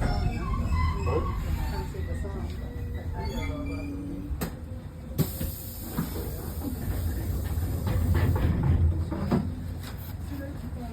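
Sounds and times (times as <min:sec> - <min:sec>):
tram rumbling: 0:00.0 - 0:10.9.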